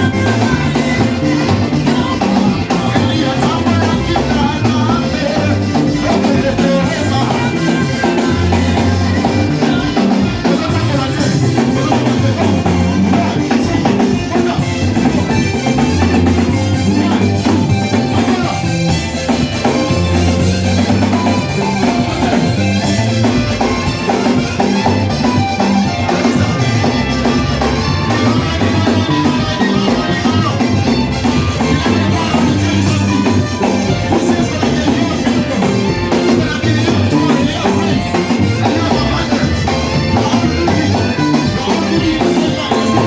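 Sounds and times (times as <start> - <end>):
drum kit beat: 0.0 - 43.0
low bass line: 0.0 - 43.0
upbeat church band music: 0.0 - 43.0.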